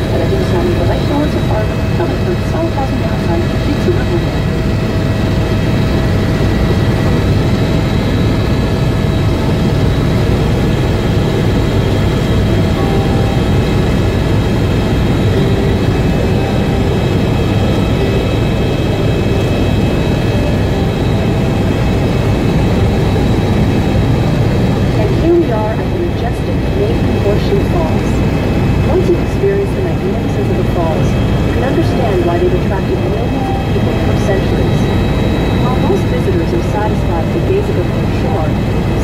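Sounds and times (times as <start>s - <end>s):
helicopter engine and rotor rumble: 0.0s - 39.0s.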